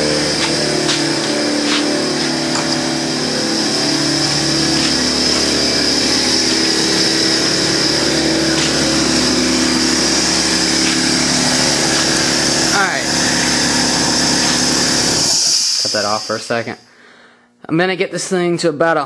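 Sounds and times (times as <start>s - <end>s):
air compressor running: 0.0s - 17.4s.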